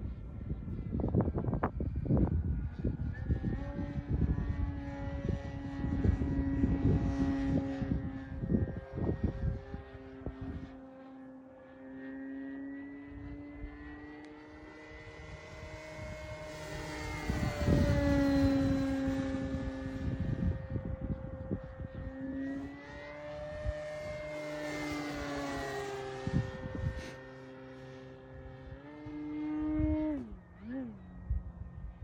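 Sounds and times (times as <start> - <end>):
model plane motor whine: 0.0 - 32.0.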